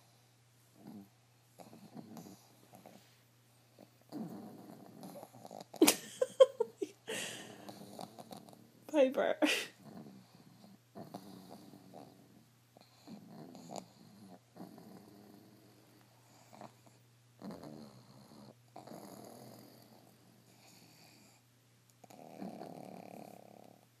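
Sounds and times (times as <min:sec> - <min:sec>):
dogs snoring: 0:00.0 - 0:05.8, 0:07.1 - 0:08.9, 0:09.7 - 0:24.0.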